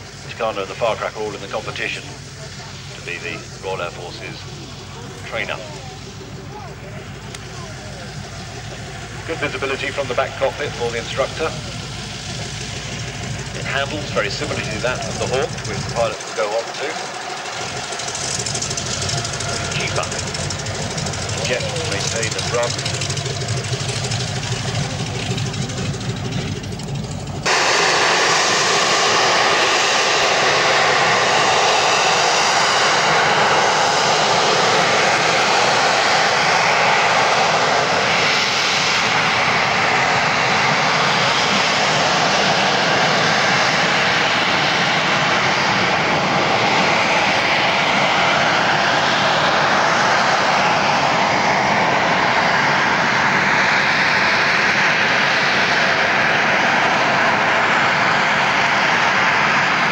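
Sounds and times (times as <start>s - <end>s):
jet engine whine: 0.0s - 59.9s.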